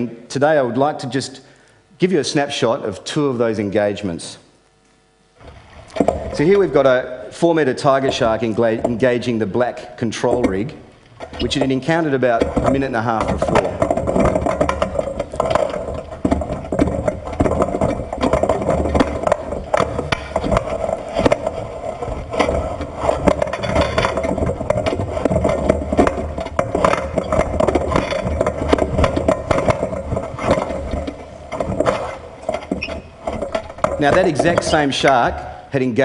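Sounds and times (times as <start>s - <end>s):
underwater knocks and scrapes: 5.4s - 35.8s.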